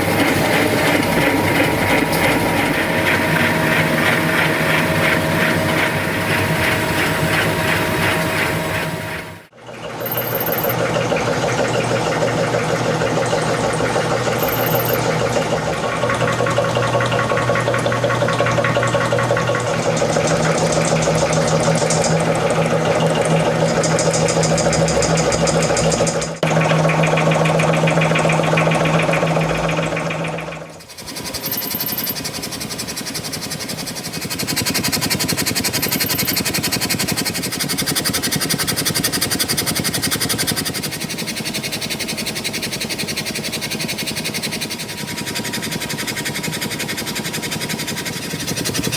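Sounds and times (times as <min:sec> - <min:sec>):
small model engine running: 0:00.0 - 0:48.9.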